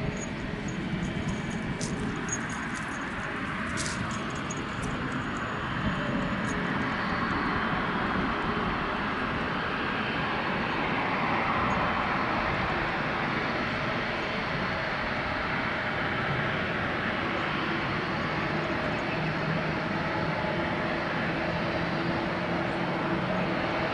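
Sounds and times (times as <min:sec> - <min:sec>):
jet engines rushing: 0:00.0 - 0:23.9.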